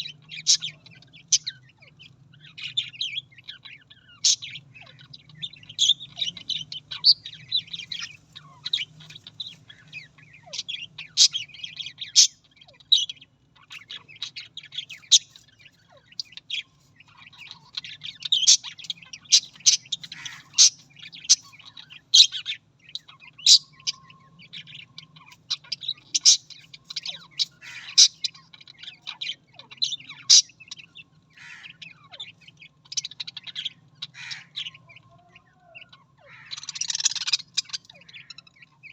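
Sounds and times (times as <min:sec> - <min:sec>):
budgerigars chirping: 0:00.0 - 0:38.9
faint low hum: 0:00.0 - 0:38.9.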